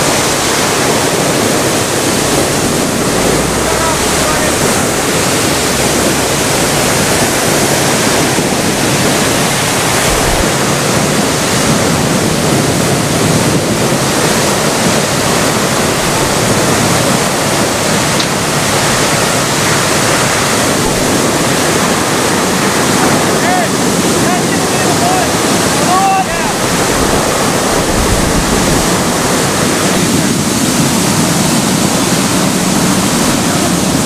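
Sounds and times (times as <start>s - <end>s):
water gushing from hydrant: 0.0s - 34.0s.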